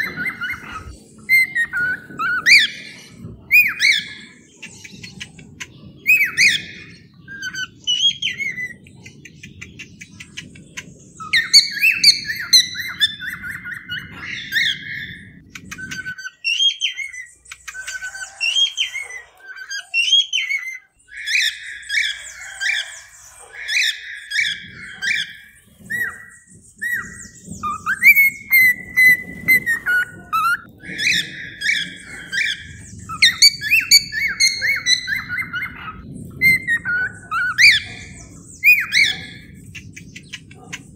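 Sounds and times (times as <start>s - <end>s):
cockatiels chirping and whistling: 0.0s - 40.9s.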